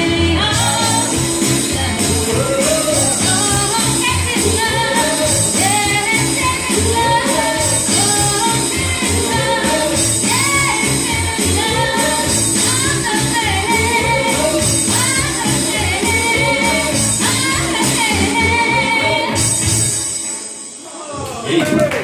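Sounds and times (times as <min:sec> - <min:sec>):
lead singer singing: 0:00.0 - 0:19.4
rock and roll band playing: 0:00.0 - 0:20.9.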